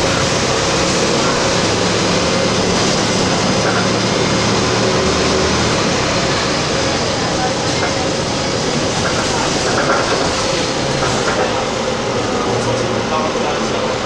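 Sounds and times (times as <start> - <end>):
bus engine hum: 0.0 - 14.0
road and cabin noise: 0.0 - 14.0.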